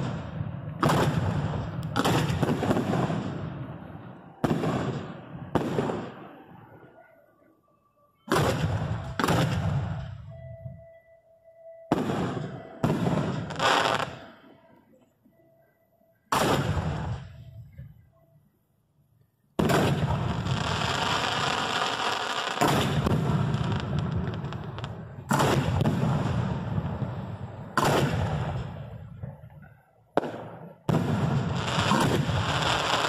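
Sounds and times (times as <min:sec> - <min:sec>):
fireworks bangs: 0:00.0 - 0:06.9, 0:08.3 - 0:10.3, 0:11.9 - 0:14.4, 0:16.3 - 0:18.0, 0:19.6 - 0:33.0.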